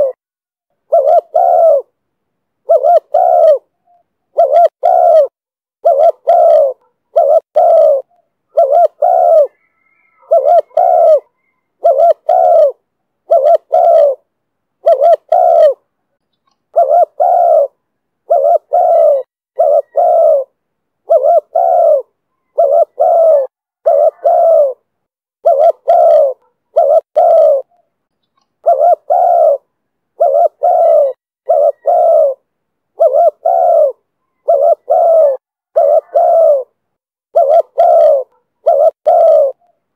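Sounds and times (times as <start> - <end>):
dove cooing: 0.0 - 0.2, 0.8 - 2.0, 2.6 - 16.0, 16.7 - 27.9, 28.6 - 39.8.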